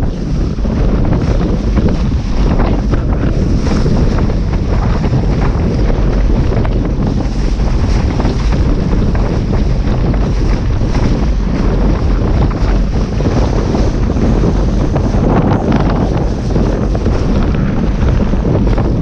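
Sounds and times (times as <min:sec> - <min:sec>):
water rushing under board: 0:00.0 - 0:19.0
water slapping hull: 0:00.0 - 0:19.0
wind buffeting microphone: 0:00.0 - 0:19.0.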